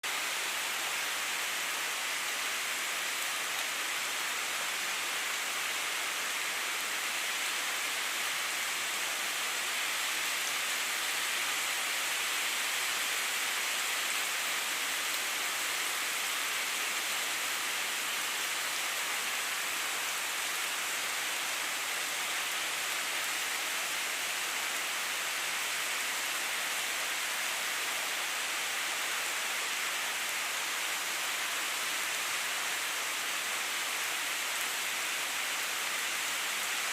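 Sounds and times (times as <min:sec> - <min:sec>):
steady rain hiss: 0:00.0 - 0:36.9.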